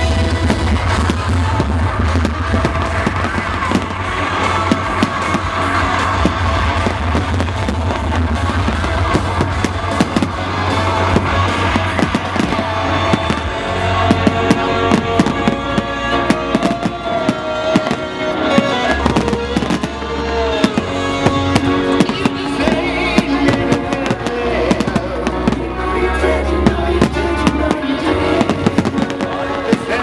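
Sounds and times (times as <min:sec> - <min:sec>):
fireworks bursting and crackling: 0:00.0 - 0:30.0
loud music with deep bass: 0:00.0 - 0:30.0.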